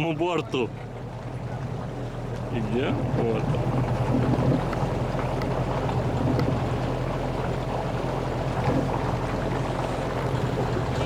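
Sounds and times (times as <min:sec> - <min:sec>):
boat motor running: 0:00.0 - 0:11.0
water noise: 0:00.0 - 0:11.0.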